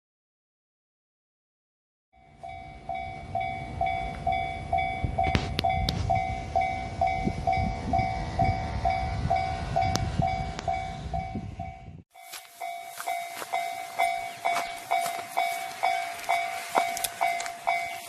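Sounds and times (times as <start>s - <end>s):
level-crossing warning bell: 2.2s - 18.0s.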